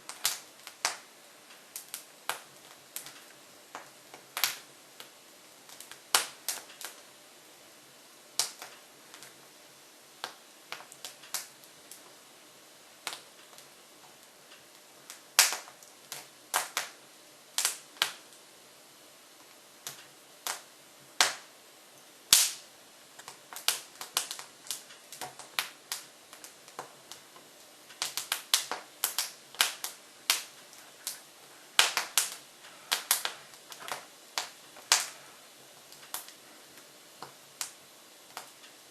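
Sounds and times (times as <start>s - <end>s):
logs crackling in wood stove: 0.0s - 38.9s.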